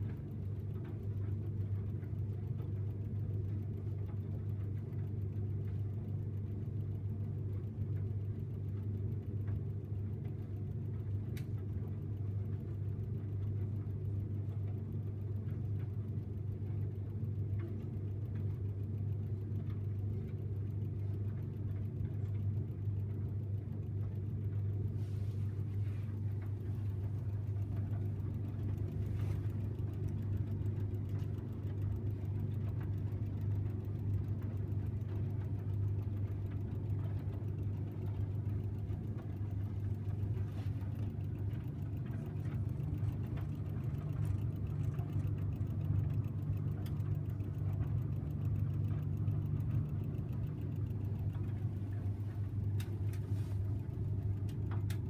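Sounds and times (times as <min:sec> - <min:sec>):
tumble dryer humming: 0:10.9 - 0:55.0.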